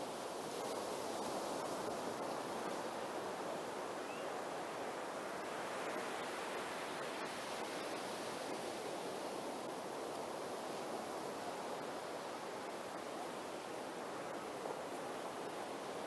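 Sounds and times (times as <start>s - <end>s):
ocean surf breaking on beach: 0.0s - 16.0s.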